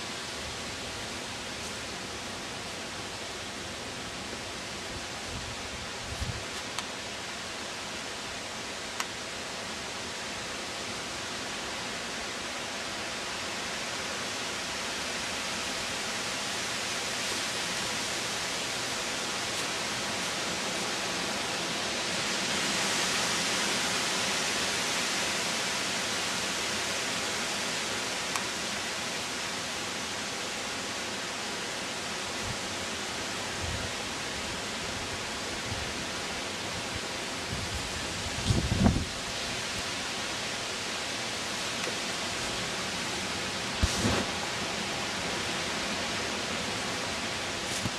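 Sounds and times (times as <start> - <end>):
wind and blowing snow hissing: 0.0 - 47.9.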